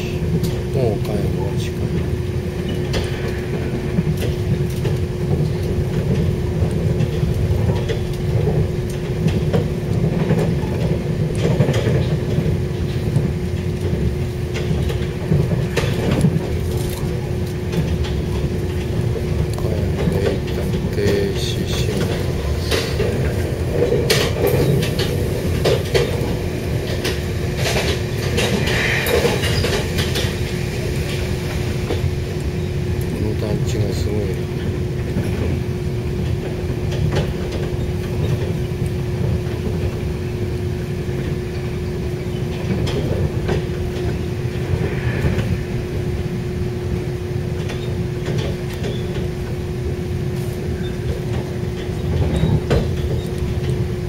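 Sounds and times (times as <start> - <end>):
wheels clicking on track: 0.0 - 45.5, 47.5 - 54.0
train rumble inside carriage: 0.0 - 54.0.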